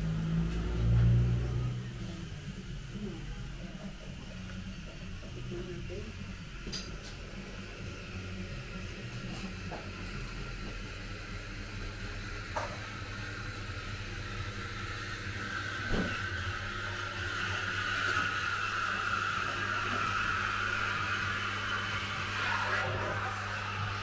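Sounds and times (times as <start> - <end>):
fan whirring: 0.0 - 24.0.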